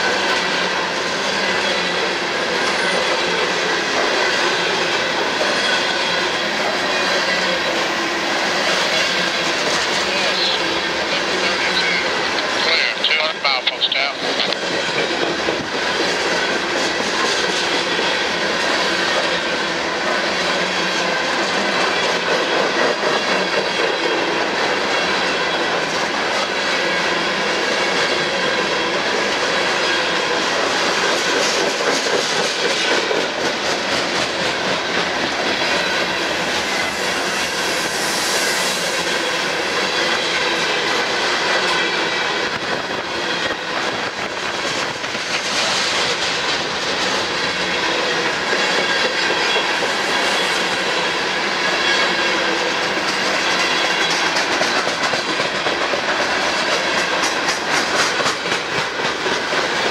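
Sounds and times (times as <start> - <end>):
steel wheels clattering on rails: 0.0 - 59.9.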